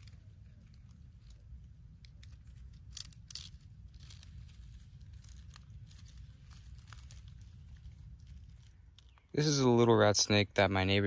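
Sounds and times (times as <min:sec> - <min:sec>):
dry leaves rustling and crackling: 0:00.0 - 0:09.7
steady low rumble: 0:00.0 - 0:11.0.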